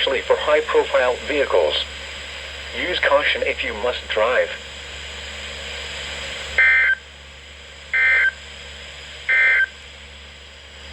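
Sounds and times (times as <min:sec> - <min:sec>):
steady radio hiss: 0:00.0 - 0:10.9.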